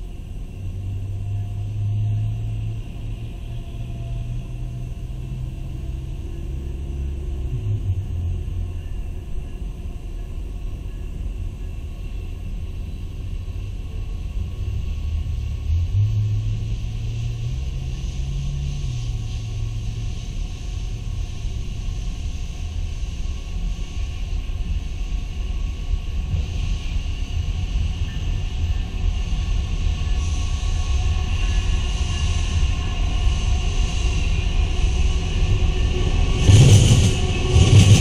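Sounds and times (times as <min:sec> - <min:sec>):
freight train rumbling: 0:00.0 - 0:38.0
train rushing noise: 0:02.7 - 0:38.0.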